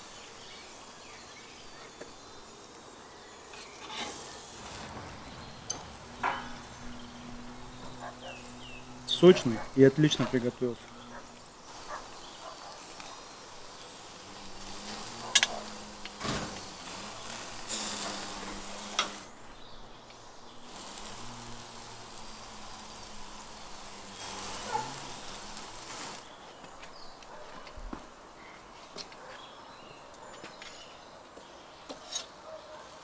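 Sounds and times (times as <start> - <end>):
meat sizzling over charcoal: 0.0 - 27.1.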